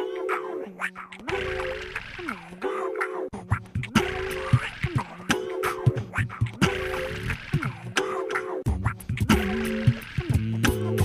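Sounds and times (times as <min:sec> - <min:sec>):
synth notes bending in pitch: 0:00.0 - 0:11.0.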